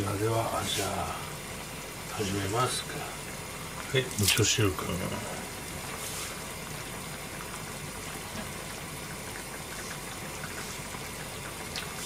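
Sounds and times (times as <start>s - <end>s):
pots simmering on a stovetop: 0.0s - 12.0s.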